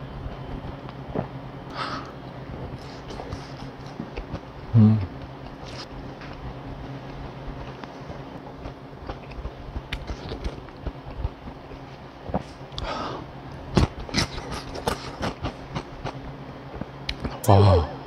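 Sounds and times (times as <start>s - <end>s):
faint steady hum: 0.0s - 18.0s
man chewing food: 0.2s - 17.4s.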